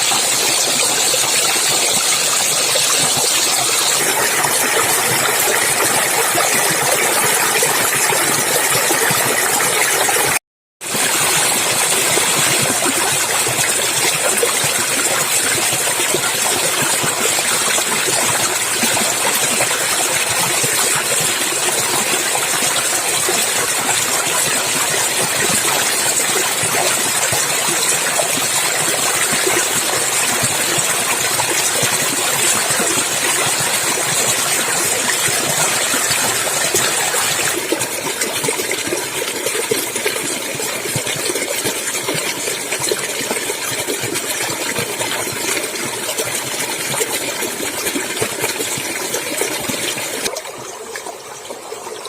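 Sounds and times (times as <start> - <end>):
stream water flowing: 0.0 - 52.0.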